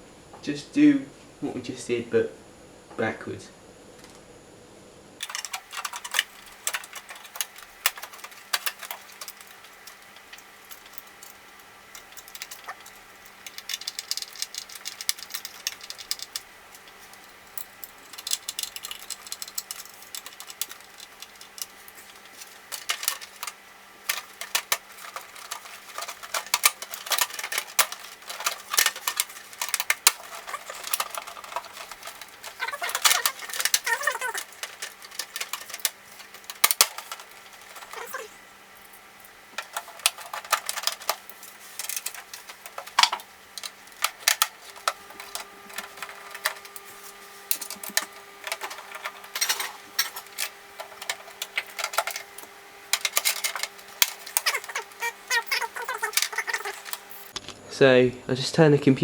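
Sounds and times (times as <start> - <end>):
faint steady hum: 0.0 - 59.0
computer parts clicking and rattling: 5.2 - 57.4.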